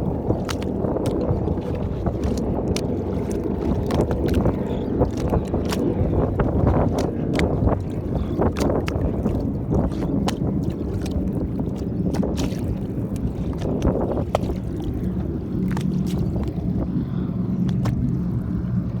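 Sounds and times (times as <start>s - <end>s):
small splashes: 0.0s - 19.0s
waves lapping against boat hull: 0.0s - 19.0s
wind on microphone: 0.0s - 19.0s.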